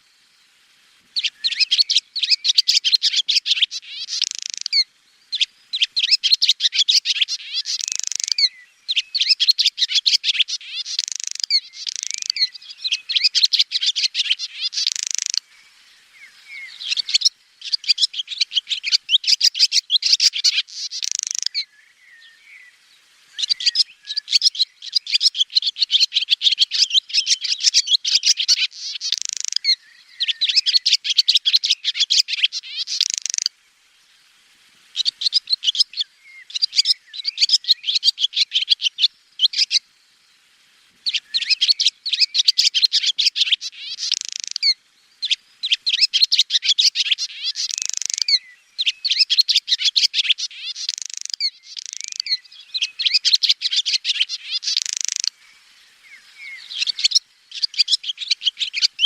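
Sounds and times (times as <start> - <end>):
swallow twittering: 1.2 - 33.5, 34.9 - 39.8, 41.0 - 59.0.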